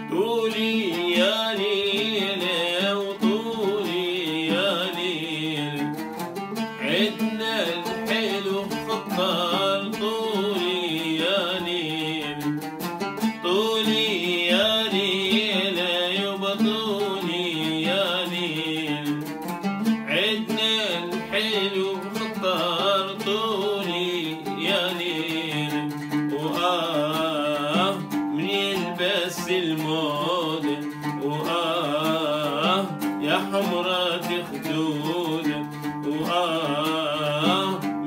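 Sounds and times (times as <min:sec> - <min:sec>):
man singing ornamented phrases: 0:00.0 - 0:38.0
oud playing: 0:00.0 - 0:38.0.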